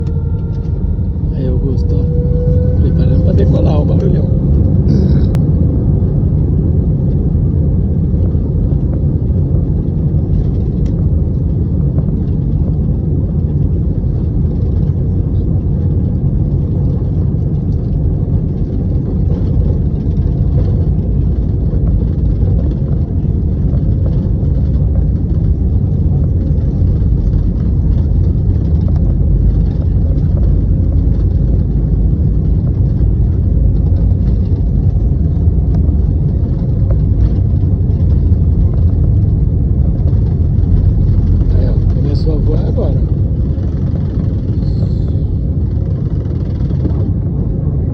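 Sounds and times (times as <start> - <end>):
airliner engines rumbling: 0.0 - 47.9.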